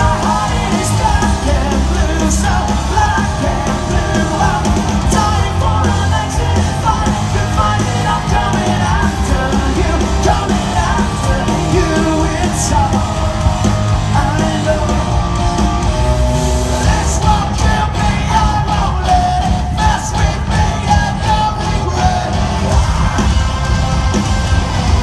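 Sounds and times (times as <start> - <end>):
live rock band playing: 0.0 - 25.0
singer singing and yelling: 0.0 - 25.0.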